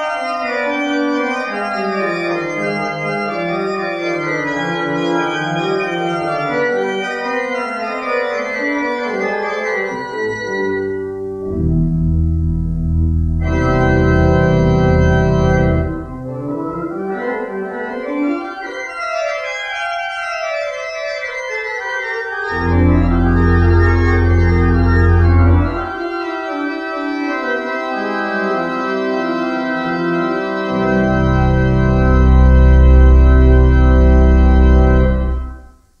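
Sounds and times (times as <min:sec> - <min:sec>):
organ chords with deep bass: 0:00.0 - 0:36.0.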